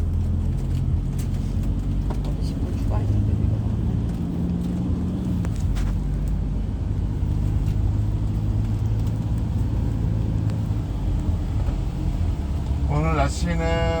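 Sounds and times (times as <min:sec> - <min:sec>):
road rumble: 0:00.0 - 0:14.0
vehicle engine running: 0:00.0 - 0:14.0.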